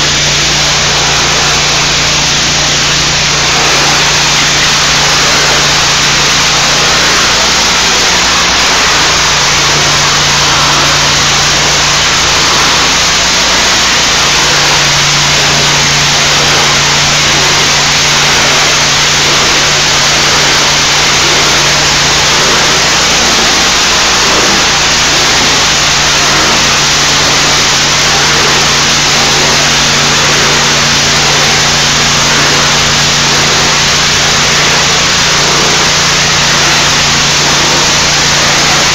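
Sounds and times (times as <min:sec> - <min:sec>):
engine hum: 0:00.0 - 0:38.9
high-pressure water spray hiss: 0:00.0 - 0:38.9.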